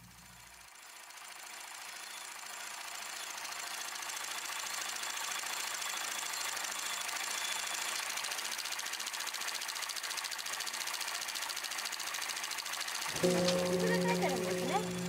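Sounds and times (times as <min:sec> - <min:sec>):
hand-cranked projector ticking: 0:00.8 - 0:15.0.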